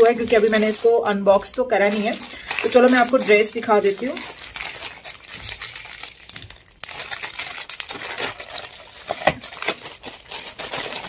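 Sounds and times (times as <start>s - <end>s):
plastic bag crinkling and tearing: 0.0s - 11.0s.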